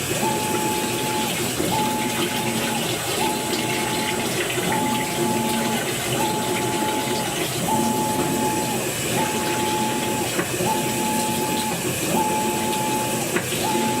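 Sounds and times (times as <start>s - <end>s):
washing machine agitating: 0.0s - 14.0s.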